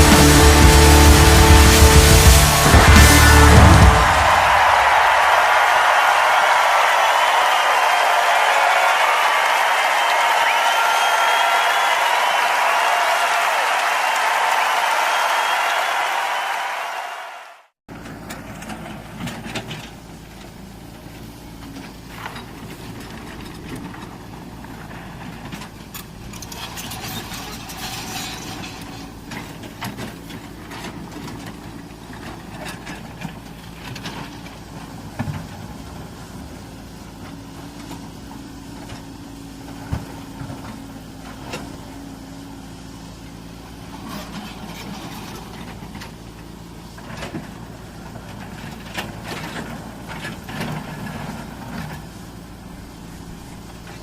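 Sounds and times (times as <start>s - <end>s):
excavator diesel engine running: 0.0s - 16.6s, 17.9s - 54.0s.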